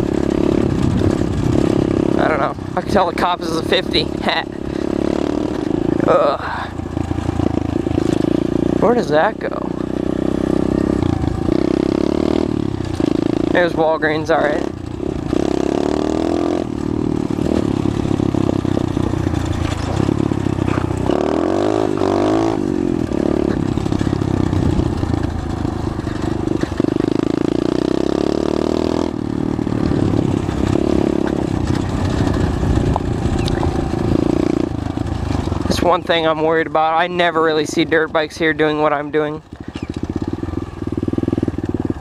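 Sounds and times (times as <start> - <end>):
small motorbike engine running: 0.0 - 42.0.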